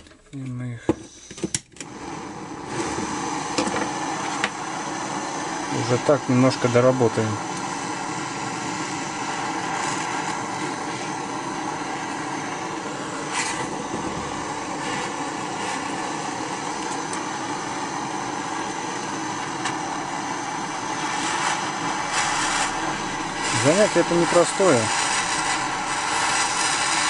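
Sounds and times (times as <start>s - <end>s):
gas torch hissing: 1.0s - 27.0s.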